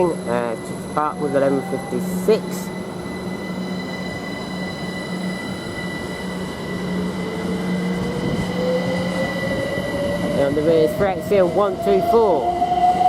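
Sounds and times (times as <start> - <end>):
constant high tones: 0.0 - 13.0
electric train running: 0.0 - 13.0
traction motor whine rising: 0.6 - 13.0.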